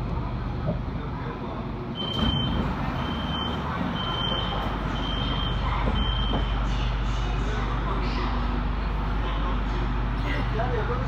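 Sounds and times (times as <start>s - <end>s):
train low hum: 0.0s - 11.0s.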